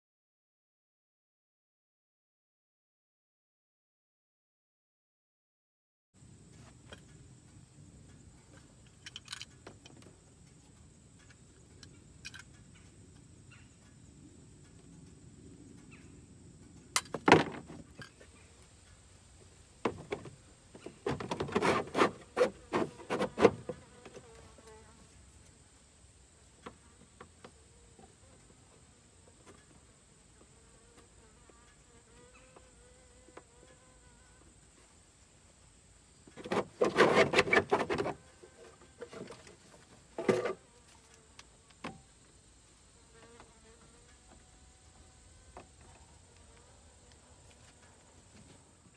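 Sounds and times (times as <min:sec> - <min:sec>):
faint insect buzz: 0:06.2 - 0:48.9.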